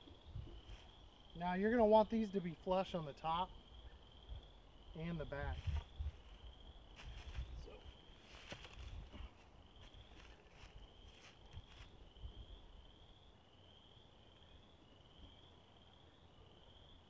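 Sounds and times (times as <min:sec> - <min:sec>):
faint high insect chirp: 0:00.0 - 0:17.0.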